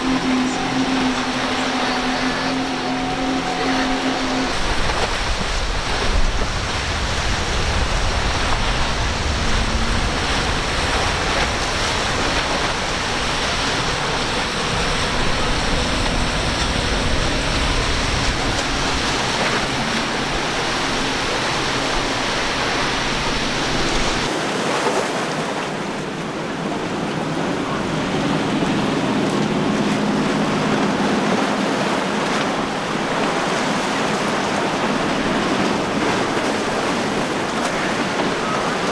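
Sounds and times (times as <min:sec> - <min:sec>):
low wind rumble: 0:00.0 - 0:38.9
outboard motors: 0:00.0 - 0:38.9
water and spray rushing: 0:00.0 - 0:38.9.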